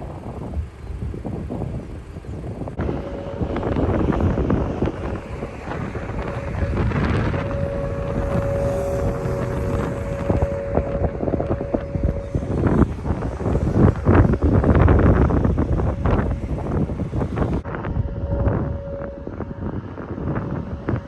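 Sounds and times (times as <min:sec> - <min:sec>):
wind buffeting microphone: 0:00.0 - 0:21.0
faint steady high tone: 0:02.8 - 0:21.0.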